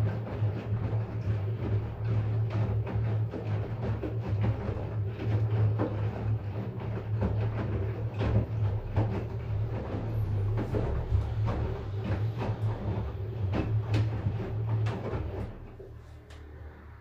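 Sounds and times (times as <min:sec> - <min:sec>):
washing machine motor hum: 0:00.0 - 0:17.0
wet clothes sloshing and knocking: 0:00.0 - 0:17.0.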